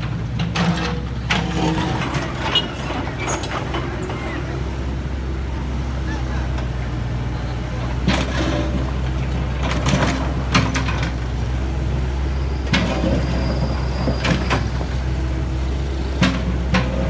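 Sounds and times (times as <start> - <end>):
heavy vehicle engine humming: 0.0 - 17.0.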